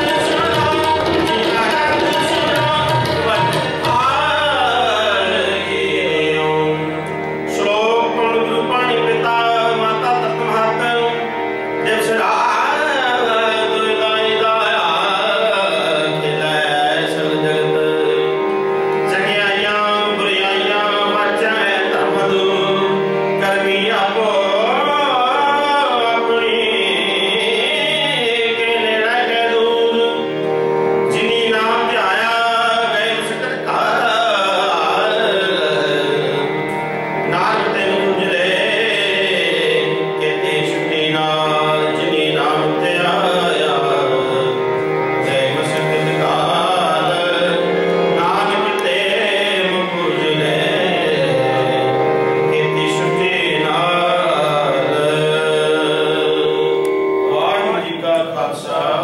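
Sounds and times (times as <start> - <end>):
harmonium held notes: 0.0 - 59.0
person singing a hymn: 0.0 - 59.0
tabla: 0.0 - 59.0.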